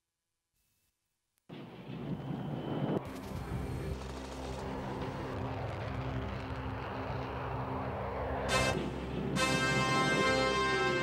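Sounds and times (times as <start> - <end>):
jet aircraft noise rushing: 1.8 - 11.0.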